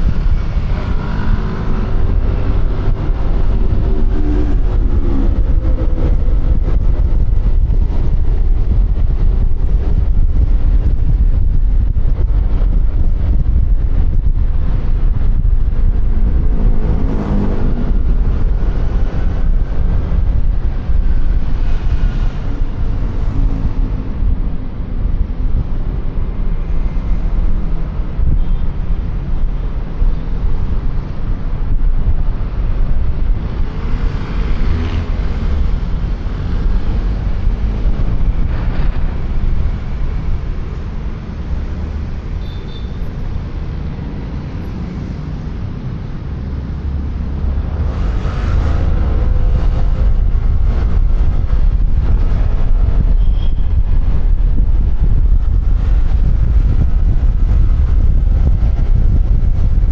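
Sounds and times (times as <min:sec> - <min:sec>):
scooter engine and road noise: 0:00.0 - 0:59.9
wind buffeting a microphone: 0:00.0 - 0:59.9.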